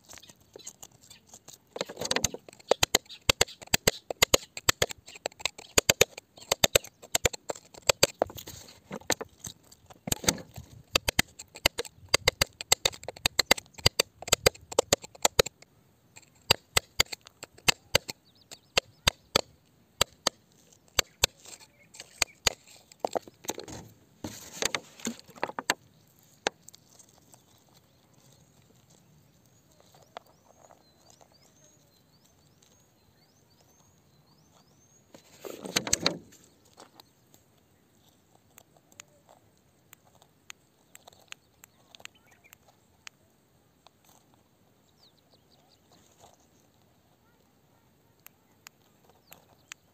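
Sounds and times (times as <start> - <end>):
bird chirping: 0.0 - 43.3, 44.1 - 49.9.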